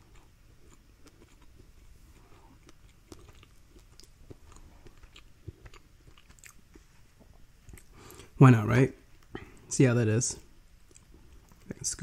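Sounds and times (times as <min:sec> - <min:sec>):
person chewing soft food: 0:00.0 - 0:08.4, 0:10.4 - 0:11.8.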